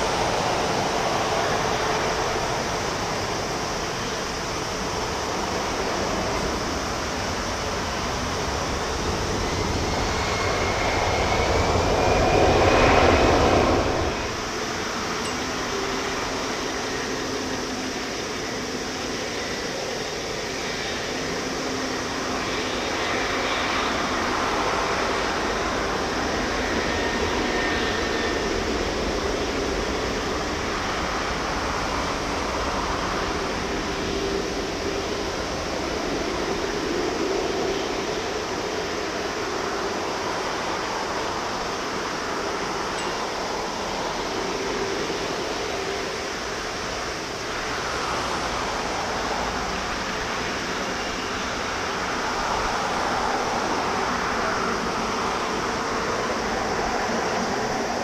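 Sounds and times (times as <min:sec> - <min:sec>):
jet engines taxiing: 0:00.0 - 0:58.0.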